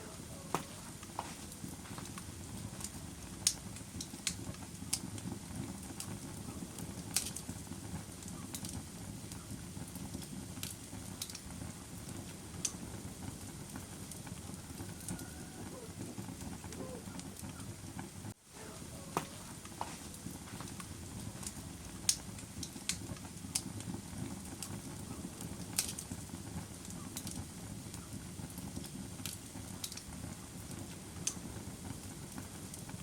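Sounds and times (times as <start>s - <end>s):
fire crackling: 0.0s - 33.0s
low rush of burning: 0.0s - 33.0s.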